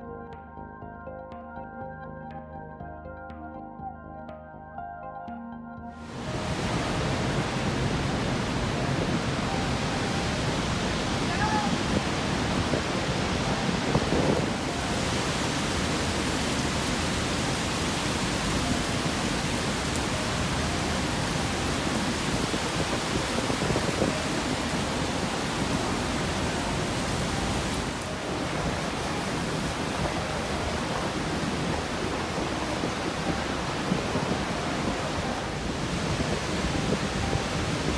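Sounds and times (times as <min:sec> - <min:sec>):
waterfall rushing: 0:06.0 - 0:37.9.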